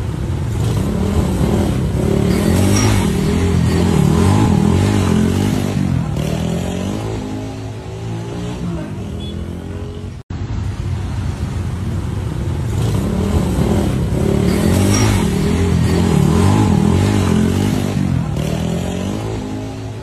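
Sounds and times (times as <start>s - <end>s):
motorcycle revving loudly: 0.0s - 10.2s, 12.6s - 20.0s
street traffic: 0.0s - 20.0s.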